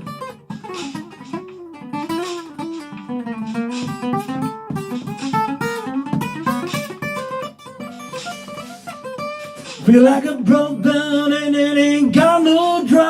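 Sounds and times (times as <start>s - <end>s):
acoustic blues guitar: 0.0s - 13.0s.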